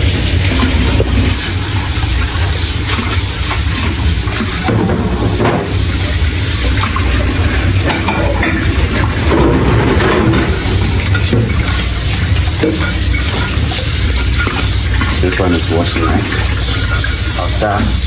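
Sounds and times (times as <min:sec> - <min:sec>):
low machine hum: 0:00.0 - 0:18.0
water running and spraying: 0:00.0 - 0:18.0
dishes clattering: 0:00.4 - 0:18.0.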